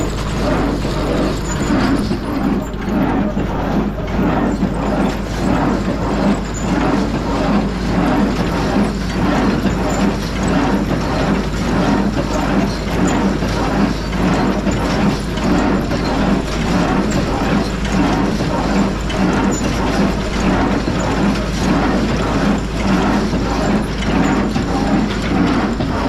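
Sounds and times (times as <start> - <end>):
baler chains and gears clattering: 0.0 - 26.0
tractor engine drone: 0.0 - 26.0.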